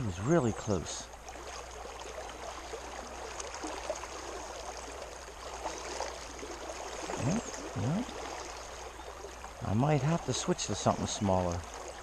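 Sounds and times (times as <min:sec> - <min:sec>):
flowing creek water: 0:00.0 - 0:12.0.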